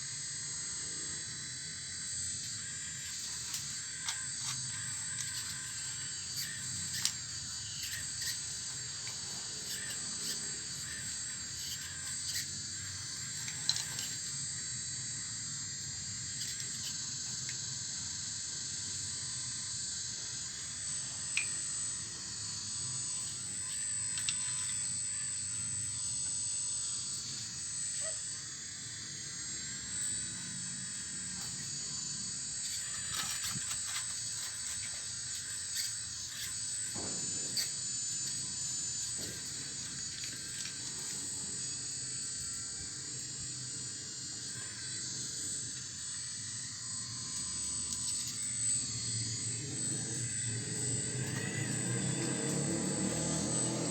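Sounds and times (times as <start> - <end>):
high-pitched machine hiss: 0.0 - 53.9.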